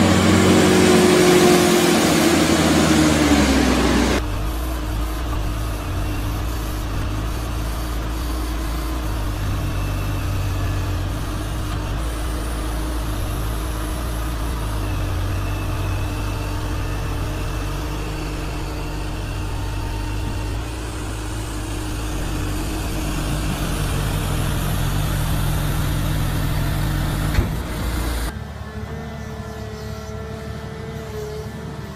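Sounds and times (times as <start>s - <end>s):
diesel engine hum: 0.0s - 31.9s.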